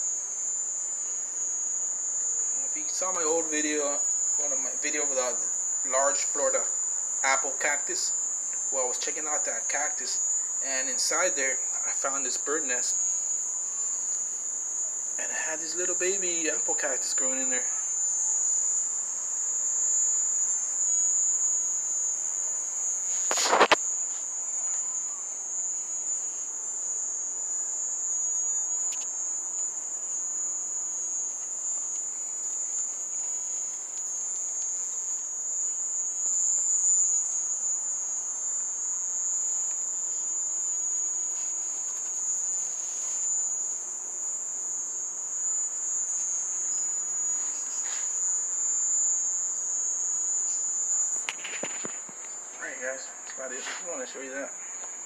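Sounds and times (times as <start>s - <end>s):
cricket trilling: 0.0s - 55.0s.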